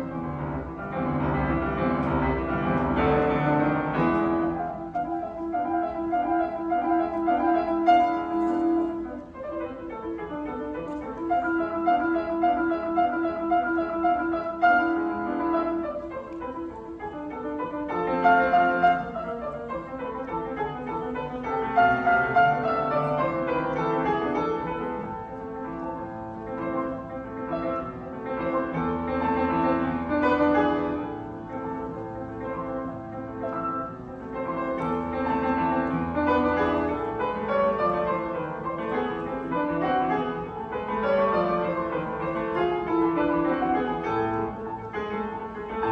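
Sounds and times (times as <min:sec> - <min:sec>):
solo piano fast passage: 0:00.0 - 0:45.9.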